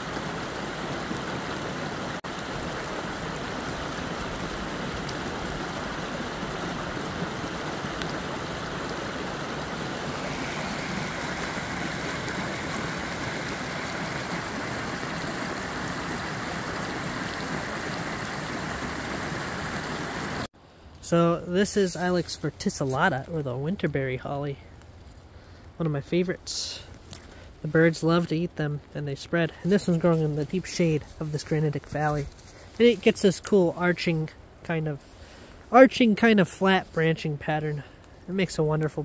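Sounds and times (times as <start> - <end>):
brook running over stones: 0.0 - 20.5, 21.1 - 39.0.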